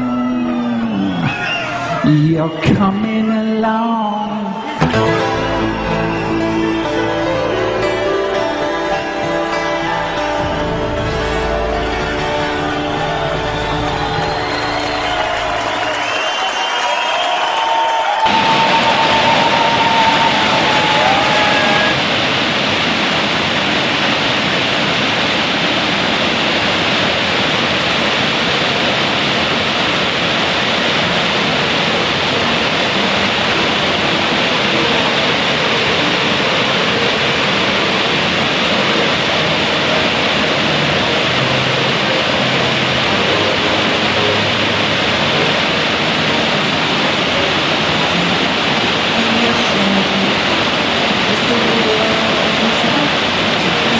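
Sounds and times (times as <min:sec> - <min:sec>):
river water rushing: 0:04.3 - 0:53.9.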